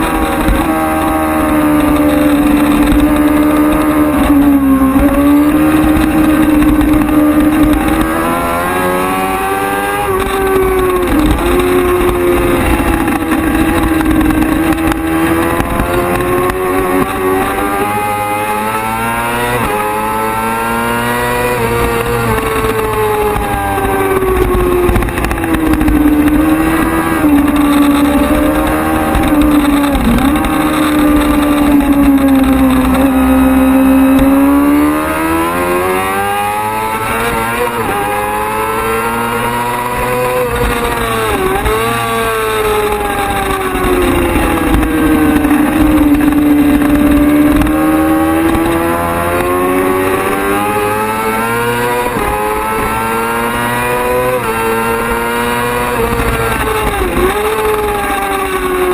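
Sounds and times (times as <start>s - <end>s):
racing motorcycle engine revving: 0.0s - 58.9s.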